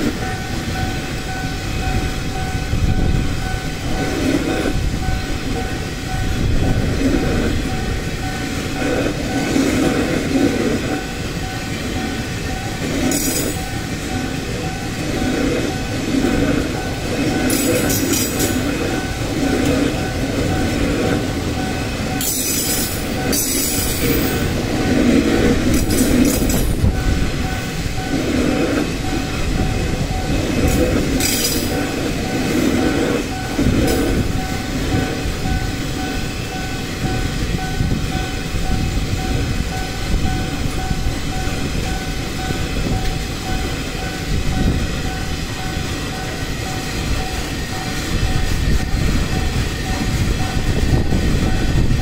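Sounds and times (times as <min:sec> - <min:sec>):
wheel and rail noise: 0:00.0 - 0:52.0.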